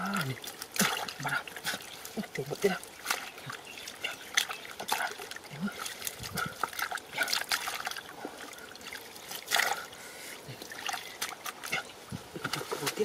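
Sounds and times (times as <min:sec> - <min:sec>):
hands splashing in muddy water: 0:00.2 - 0:09.9, 0:10.5 - 0:13.0.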